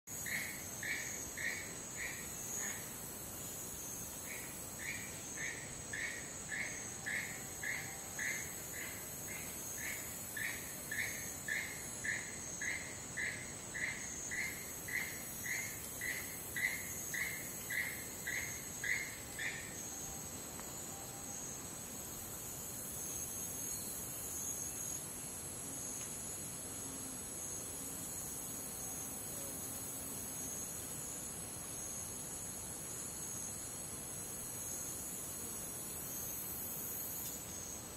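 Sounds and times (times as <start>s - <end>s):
high-pitched insect chorus: 0.1s - 37.9s.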